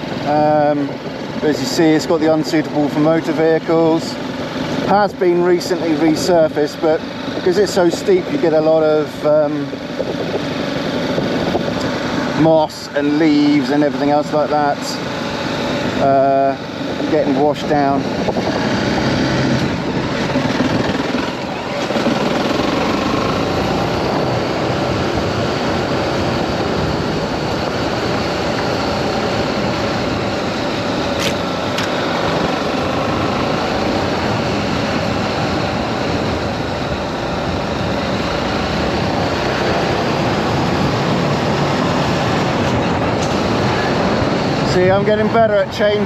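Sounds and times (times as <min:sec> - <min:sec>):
motorcycle engine under load: 0:00.0 - 0:46.0.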